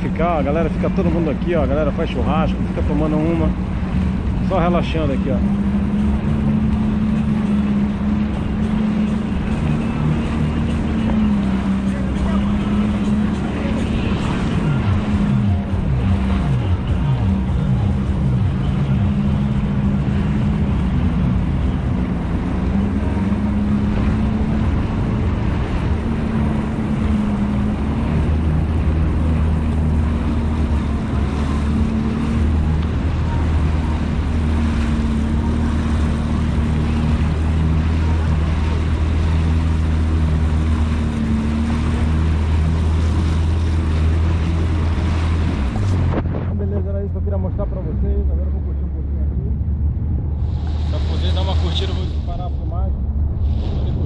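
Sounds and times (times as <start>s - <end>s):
jet ski engine running: 0.0s - 54.0s
steady rushing noise: 0.0s - 54.0s.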